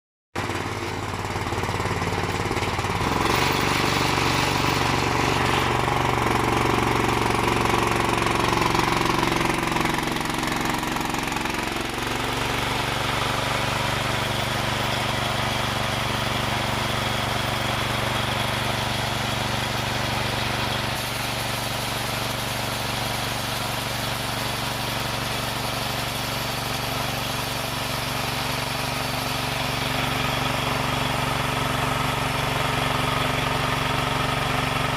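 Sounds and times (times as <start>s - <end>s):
motor-driven wood saw running: 0.4s - 34.9s.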